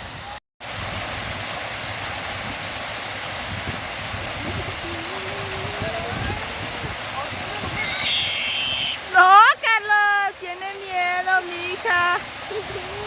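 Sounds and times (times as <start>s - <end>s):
waterfall splashing into a pool: 0.0s - 13.0s.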